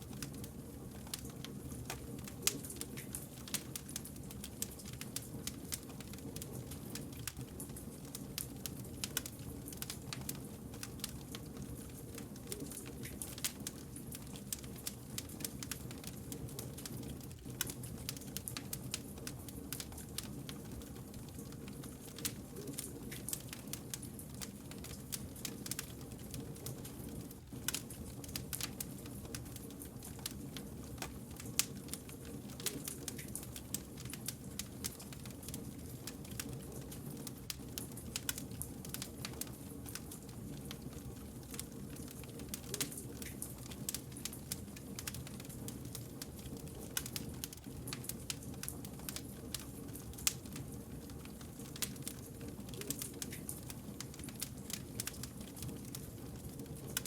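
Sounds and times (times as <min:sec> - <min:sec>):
burning firewood crackling: 0:00.0 - 0:57.0.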